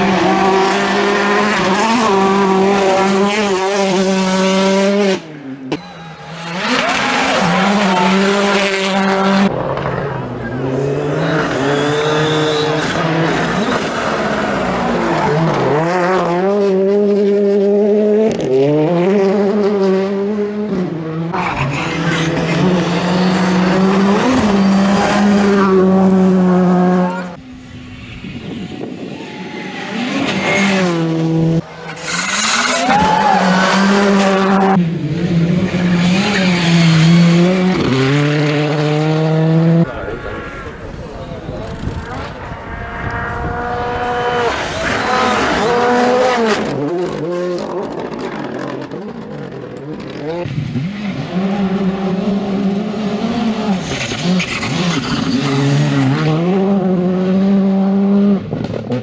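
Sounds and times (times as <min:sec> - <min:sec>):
rally cars at full throttle: 0:00.0 - 0:59.0.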